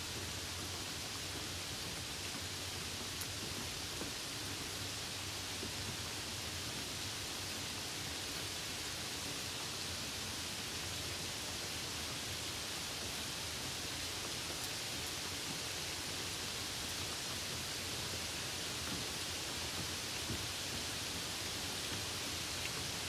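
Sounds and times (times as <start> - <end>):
rain hissing on a car: 0.0 - 23.0.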